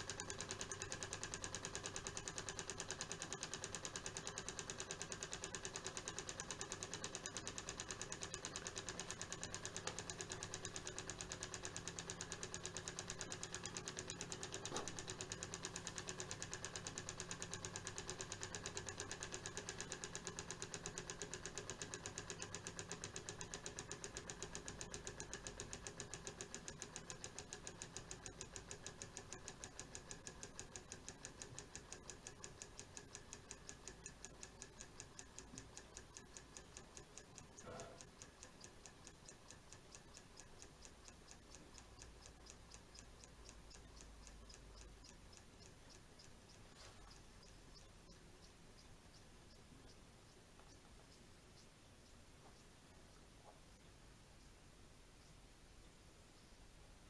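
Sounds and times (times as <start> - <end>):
model engine mechanical ticking: 0.0 - 54.6.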